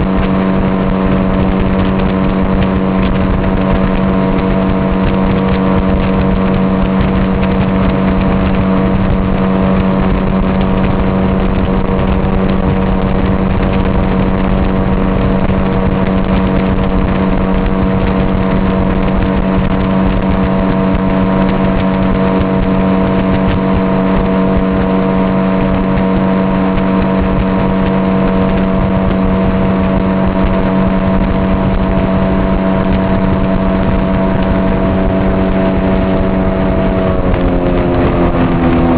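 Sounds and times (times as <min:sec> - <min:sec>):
motorboat engine humming: 0:00.0 - 0:38.9
rushing water: 0:00.0 - 0:38.9.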